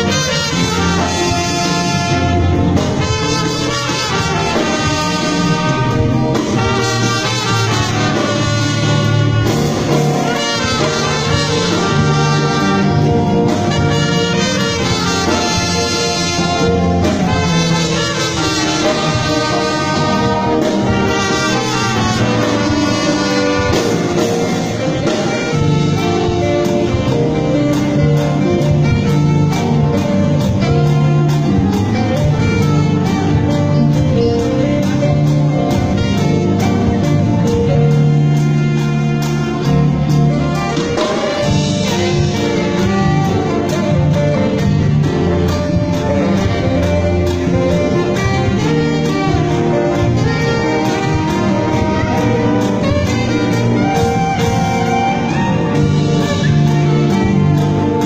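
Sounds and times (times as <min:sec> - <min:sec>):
orchestra playing a hymn: 0:00.0 - 0:58.0.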